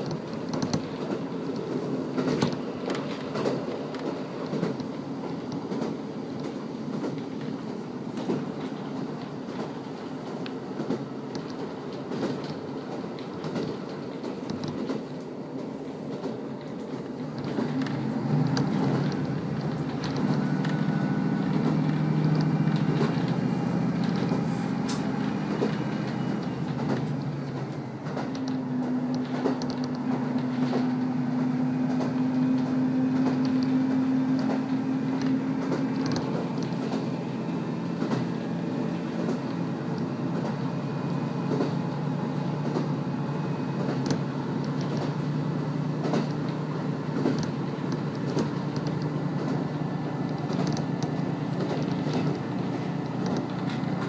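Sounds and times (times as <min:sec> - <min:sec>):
diesel engine drone: 0:00.0 - 0:54.0
wheels clicking over rails: 0:00.0 - 0:54.0.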